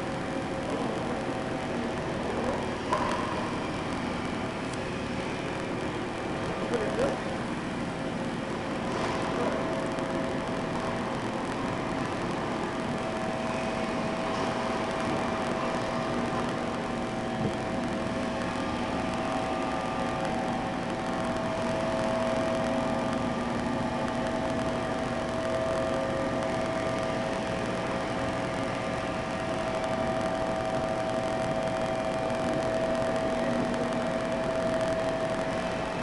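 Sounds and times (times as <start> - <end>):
machine whine: 0.0 - 36.0.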